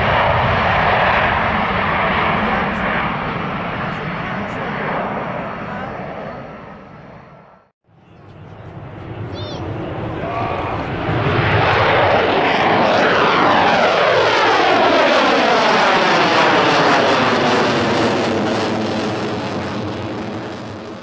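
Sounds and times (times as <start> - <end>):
fighter jet passing overhead: 0.0 - 21.0.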